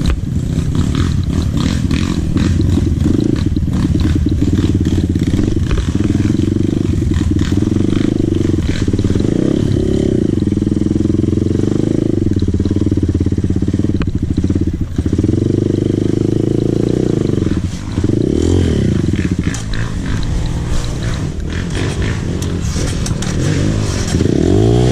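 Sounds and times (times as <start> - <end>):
dirt bike engine running: 0.0 - 24.9.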